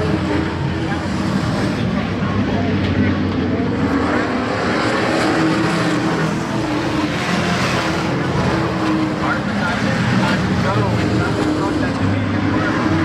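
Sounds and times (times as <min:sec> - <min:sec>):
race truck engines running: 0:00.0 - 0:13.0.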